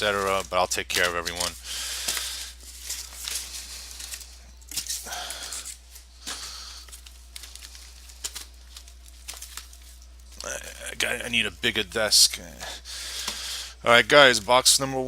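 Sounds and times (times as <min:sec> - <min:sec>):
plastic wrap crinkling: 0:00.0 - 0:13.6
steady low hum: 0:00.0 - 0:15.0.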